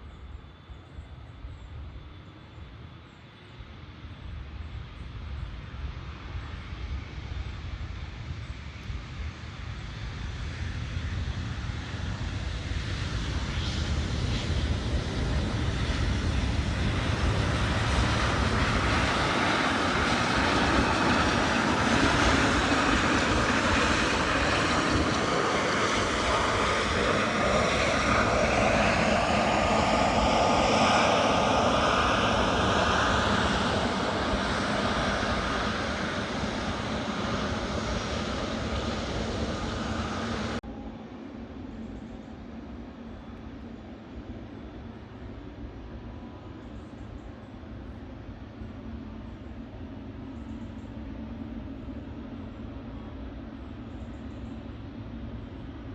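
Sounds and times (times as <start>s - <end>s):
jet engines whining: 8.2s - 55.9s.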